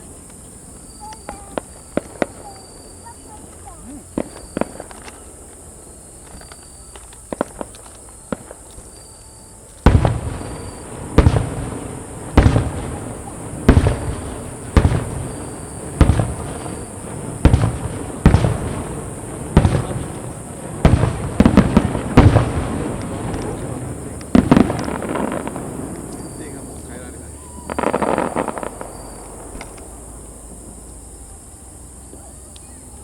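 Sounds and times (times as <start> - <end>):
fireworks booming with echo: 0.0 - 33.0.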